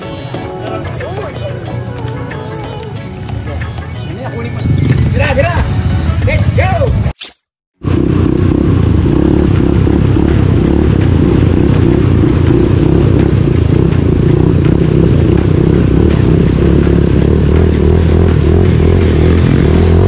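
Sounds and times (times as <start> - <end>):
dirt bike engine running: 0.0 - 7.0, 7.8 - 20.0.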